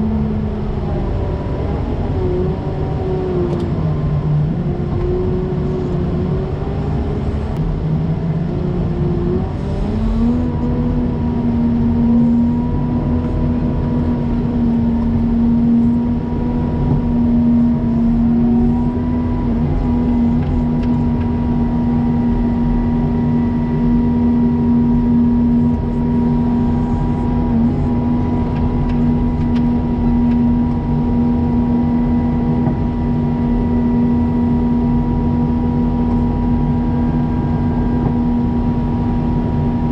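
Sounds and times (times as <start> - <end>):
snowplow engine under load: 0.0 - 39.9.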